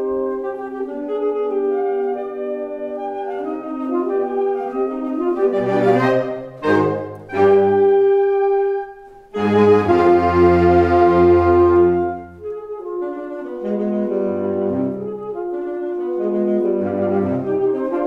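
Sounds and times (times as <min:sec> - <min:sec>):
saxophone ensemble playing: 0:00.0 - 0:18.0.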